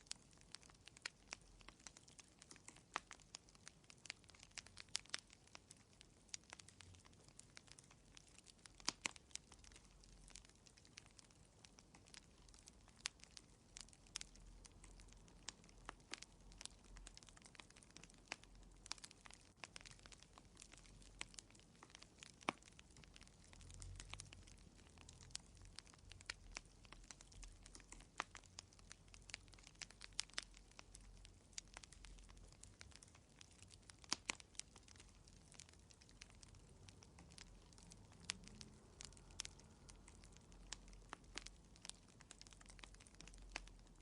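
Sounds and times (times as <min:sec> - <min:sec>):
fire crackling in fireplace: 0:00.0 - 0:44.0.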